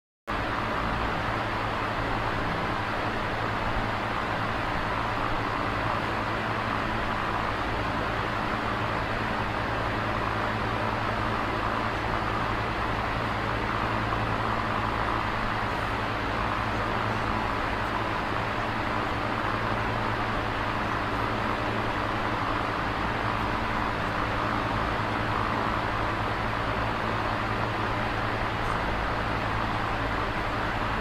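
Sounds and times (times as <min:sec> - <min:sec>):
steady noise: 0:00.3 - 0:31.0.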